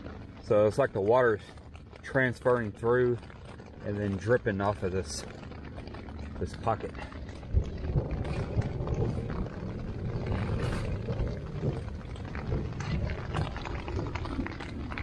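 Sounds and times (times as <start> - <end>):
drops ticking: 0.0 - 15.0
rain pattering on tent: 0.0 - 15.0.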